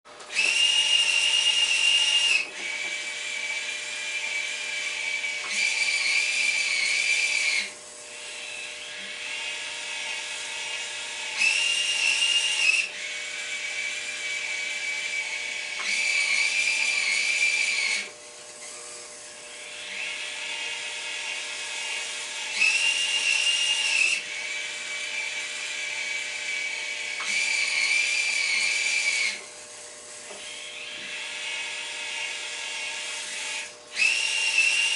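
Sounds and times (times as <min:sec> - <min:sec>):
model crane motors whining: 0:00.1 - 0:34.9.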